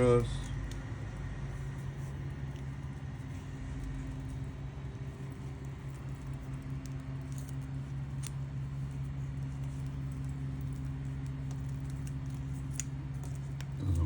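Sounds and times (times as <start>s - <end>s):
steady low hum: 0.0s - 14.0s
small clicks and handling noises: 0.2s - 14.0s.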